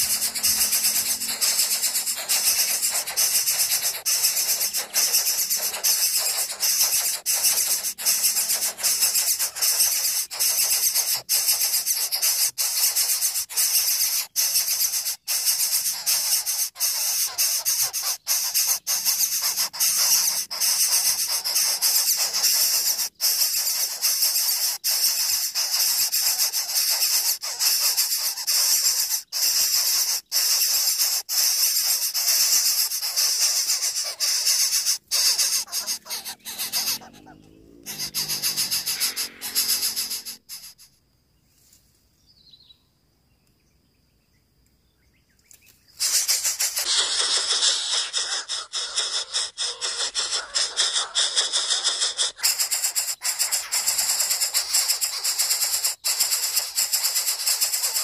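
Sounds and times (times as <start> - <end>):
nestlings begging with harsh hiss: 0.0 - 41.0, 45.6 - 58.0.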